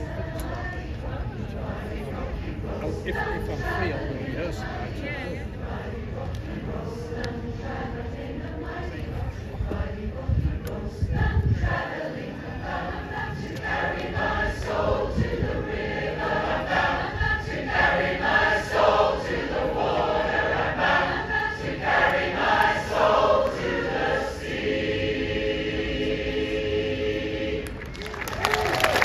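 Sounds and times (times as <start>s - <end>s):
choir singing a cappella: 0.0s - 27.9s.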